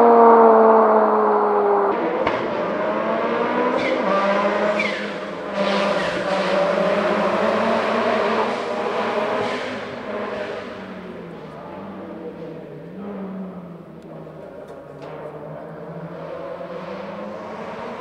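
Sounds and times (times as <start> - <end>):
racing car engine accelerating: 0.0 - 18.0.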